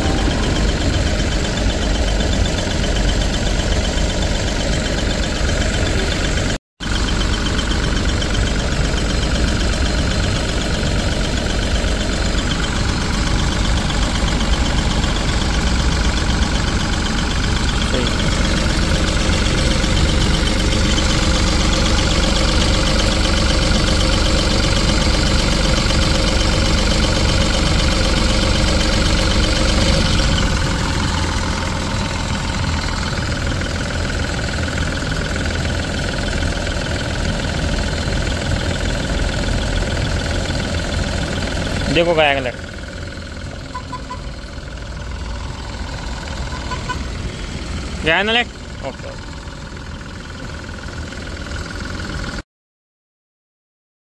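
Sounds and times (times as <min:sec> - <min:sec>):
diesel engine idling: 0:00.0 - 0:52.4.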